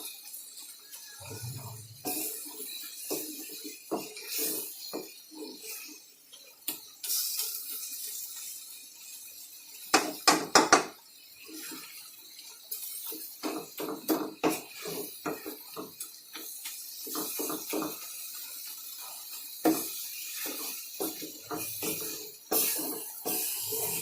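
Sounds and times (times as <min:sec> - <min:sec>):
pots and dishes clattering: 0:00.6 - 0:06.0, 0:09.8 - 0:24.0.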